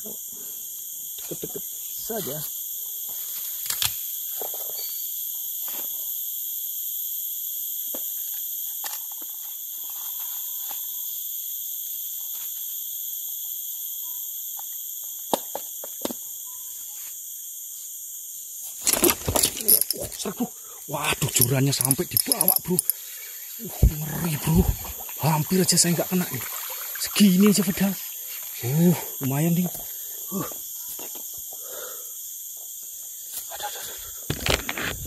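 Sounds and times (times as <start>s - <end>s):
insect chorus: 0.0s - 35.0s.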